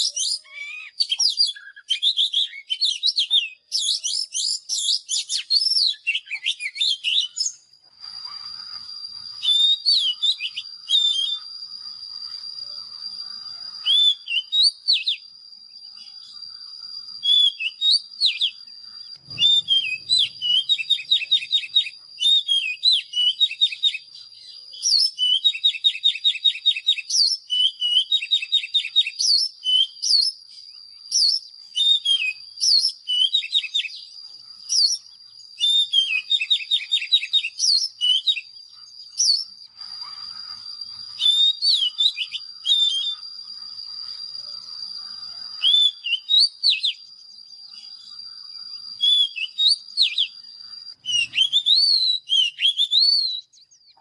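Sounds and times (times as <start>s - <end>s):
bird singing whistled phrases and trills: 0.0s - 54.0s.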